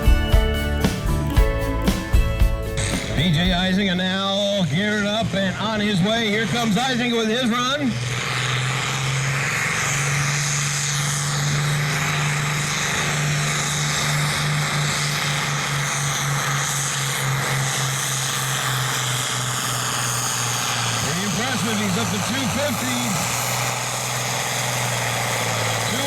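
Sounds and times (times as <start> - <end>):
tractor engine under heavy load: 0.0 - 26.0.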